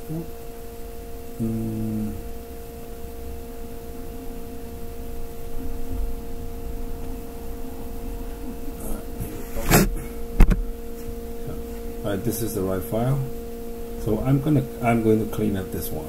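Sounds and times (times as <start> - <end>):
background hum: 0.0 - 16.0
faint pure tone: 0.0 - 16.0.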